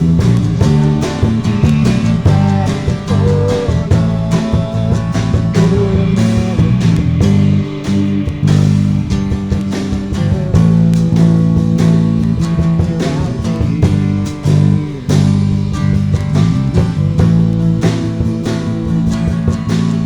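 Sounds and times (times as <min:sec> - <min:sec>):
drum hits: 0:00.0 - 0:20.0
live band playing: 0:00.0 - 0:20.0.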